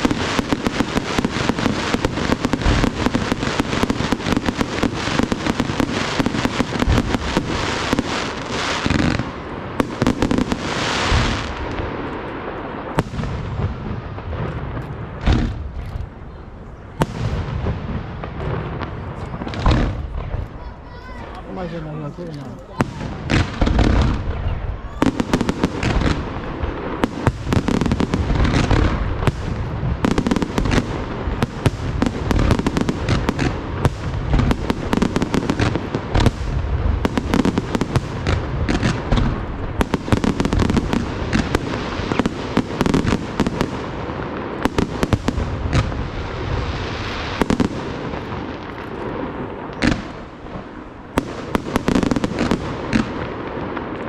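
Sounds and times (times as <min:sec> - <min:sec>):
fireworks bangs and booms: 0:00.0 - 0:54.0
fireworks crackling: 0:00.0 - 0:54.0.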